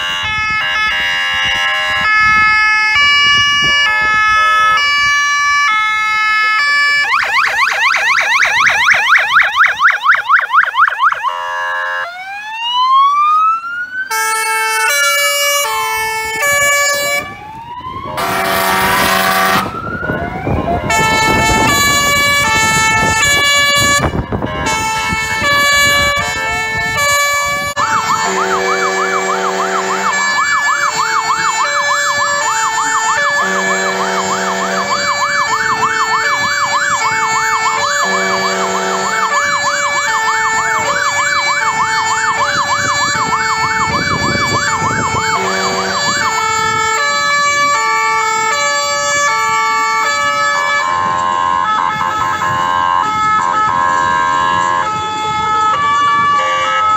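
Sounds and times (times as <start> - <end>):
loud horn blast: 0.0 - 7.0, 11.2 - 12.2, 14.1 - 17.4, 18.1 - 19.8, 20.6 - 56.9
two-tone horns: 0.0 - 7.1, 11.1 - 12.2, 14.1 - 17.4, 18.1 - 19.8, 20.6 - 56.9
fire engine sirens: 0.0 - 56.9.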